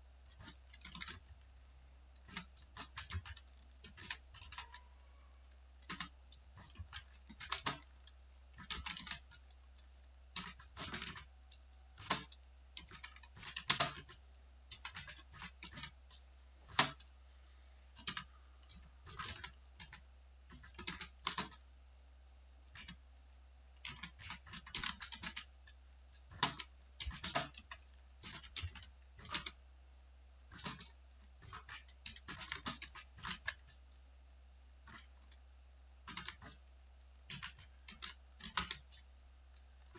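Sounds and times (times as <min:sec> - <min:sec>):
faint low hum: 0:00.0 - 0:39.9
typing on computer keyboard: 0:00.3 - 0:17.1, 0:17.9 - 0:21.7, 0:22.7 - 0:23.0, 0:23.8 - 0:29.6, 0:30.5 - 0:34.0, 0:34.8 - 0:35.4, 0:36.0 - 0:39.9.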